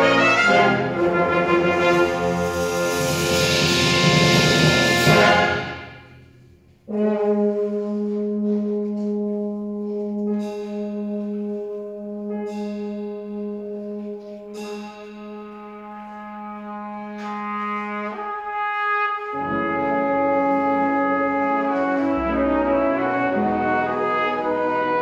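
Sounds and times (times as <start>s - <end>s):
symphony orchestra playing: 0.0s - 6.2s, 6.9s - 25.0s.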